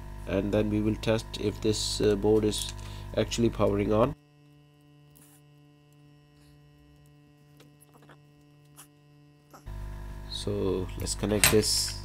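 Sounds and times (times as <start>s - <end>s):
faint mains hum: 0.0s - 12.0s.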